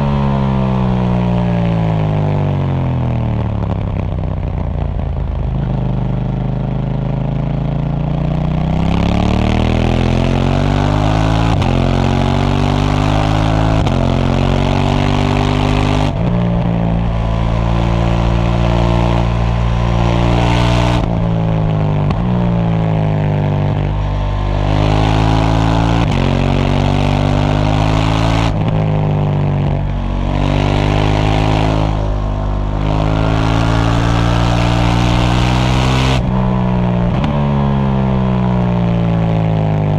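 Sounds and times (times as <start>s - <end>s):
motorcycle engine shifting up gears: 0.0s - 39.9s.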